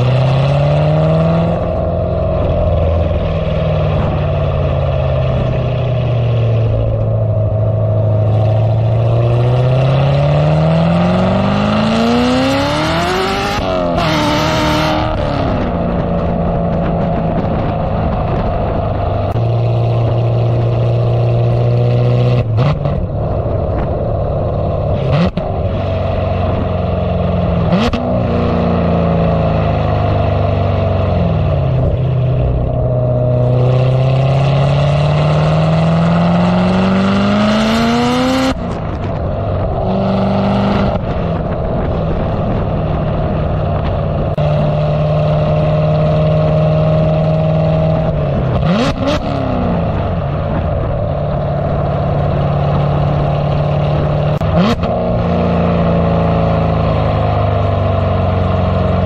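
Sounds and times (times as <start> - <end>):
sports car exhaust revving: 0.0 - 59.0.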